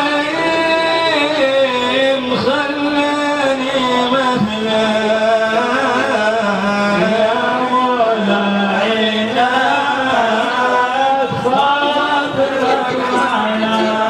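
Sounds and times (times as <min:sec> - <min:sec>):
man singing unaccompanied chant: 0:00.0 - 0:14.0.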